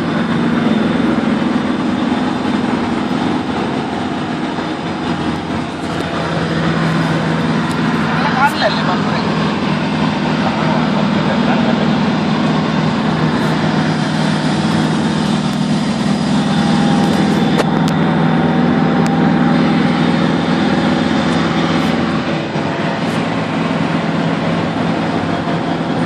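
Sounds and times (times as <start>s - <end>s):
van engine and tyre noise: 0.0s - 26.0s.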